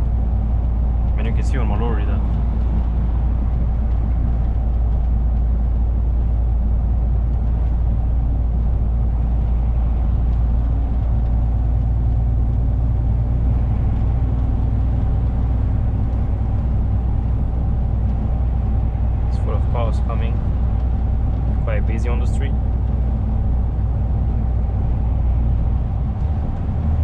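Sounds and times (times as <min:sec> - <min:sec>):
diesel engine and road noise: 0:00.0 - 0:27.0.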